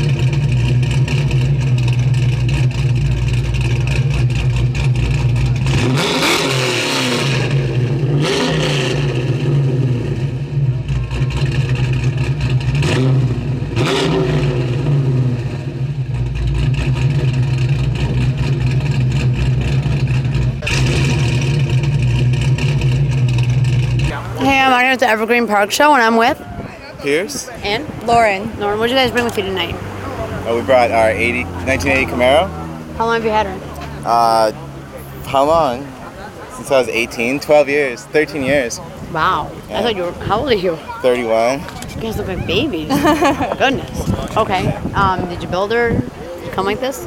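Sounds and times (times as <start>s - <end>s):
car engine idling and revving: 0.0s - 26.3s, 27.6s - 47.0s.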